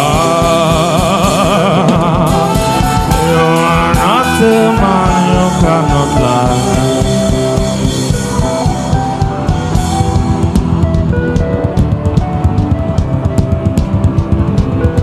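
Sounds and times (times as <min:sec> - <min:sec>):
drum kit playing: 0:00.0 - 0:15.0
held chords: 0:00.0 - 0:15.0.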